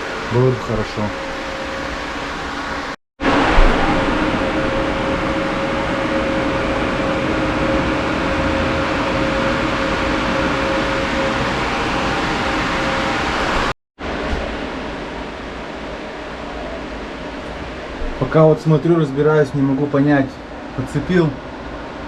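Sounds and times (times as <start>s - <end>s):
exhaust fan running: 0.0s - 22.0s.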